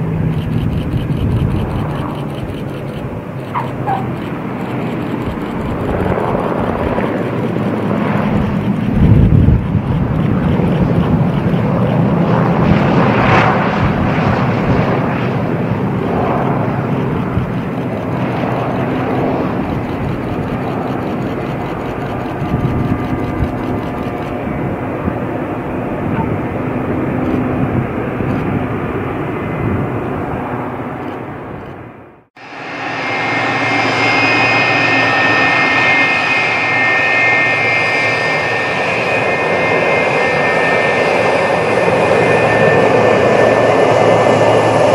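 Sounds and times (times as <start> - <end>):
jet engine whine: 0.0 - 44.9
piston aircraft engines: 0.0 - 44.9.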